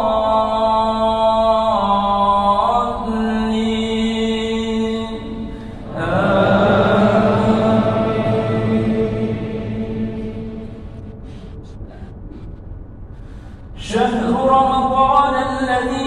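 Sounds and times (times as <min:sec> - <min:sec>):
person reciting melodically: 0:00.0 - 0:12.4, 0:13.8 - 0:16.0.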